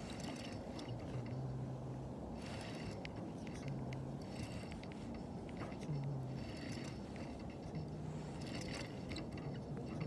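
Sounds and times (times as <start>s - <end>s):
fishing reel whirring: 0.0s - 1.5s, 2.2s - 10.0s
low background noise: 0.0s - 10.0s.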